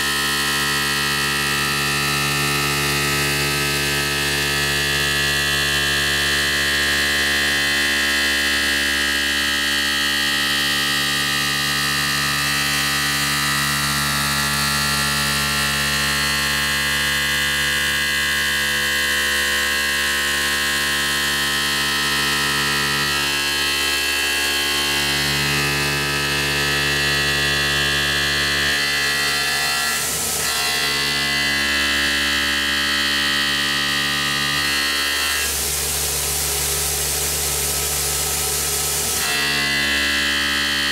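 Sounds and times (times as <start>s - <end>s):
milling machine cutting metal: 0.0s - 40.9s.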